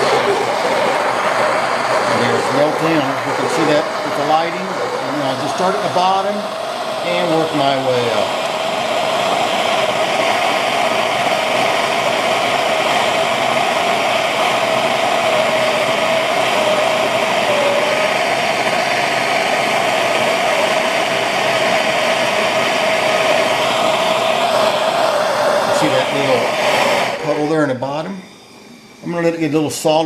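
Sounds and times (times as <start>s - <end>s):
gas torch flame hissing roar: 0.0s - 30.0s.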